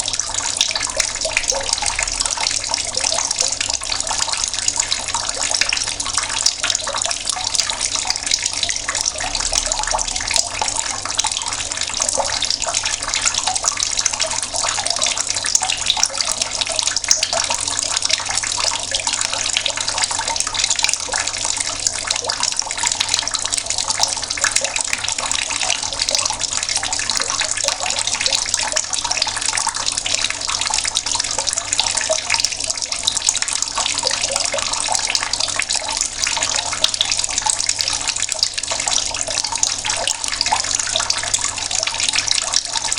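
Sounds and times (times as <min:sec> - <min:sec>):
water running from a tap: 0:00.0 - 0:42.9.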